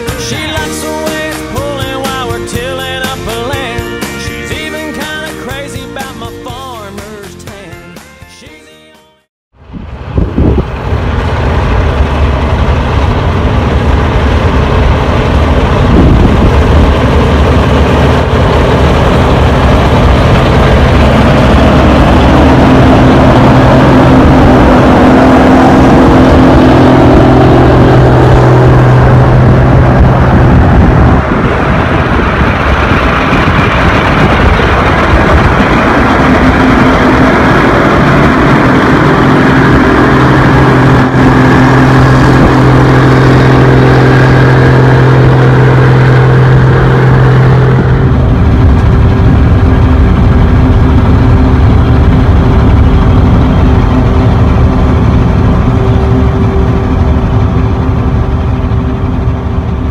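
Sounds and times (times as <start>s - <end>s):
heavy farm machinery engine: 0.0s - 8.6s, 9.6s - 59.9s.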